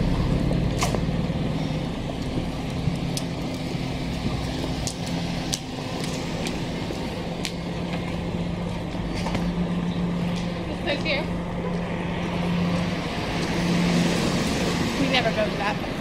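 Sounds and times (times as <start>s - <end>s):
street noise: 0.0s - 16.0s
vehicle engine humming: 0.0s - 16.0s.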